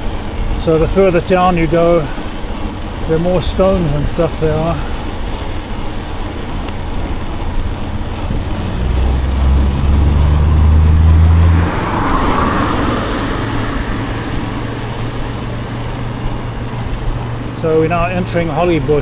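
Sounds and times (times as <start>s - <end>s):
vehicle engine drone: 0.0s - 19.0s
wind and road noise: 0.0s - 19.0s
tyre and air noise: 1.7s - 18.2s.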